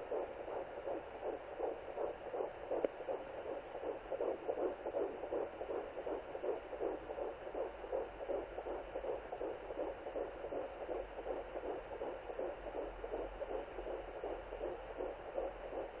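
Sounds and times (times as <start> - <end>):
fetal heartbeat whooshing pulses: 0.0 - 16.0.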